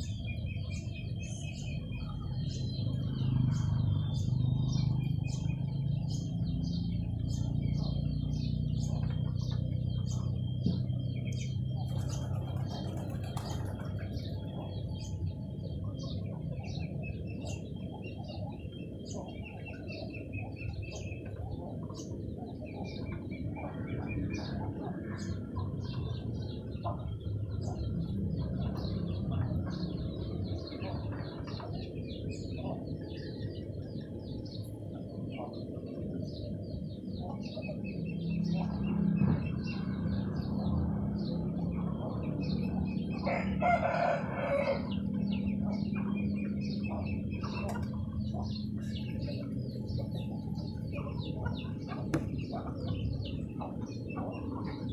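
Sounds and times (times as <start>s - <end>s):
low background rumble: 0.0s - 54.9s
small birds chirping: 0.0s - 54.9s.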